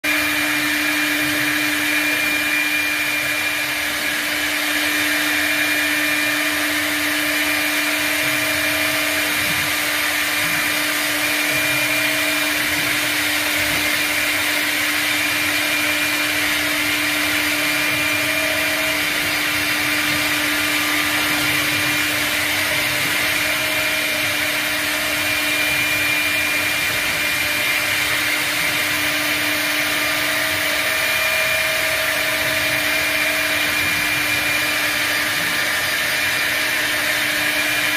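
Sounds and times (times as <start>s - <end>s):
router spindle whine: 0.0s - 37.9s.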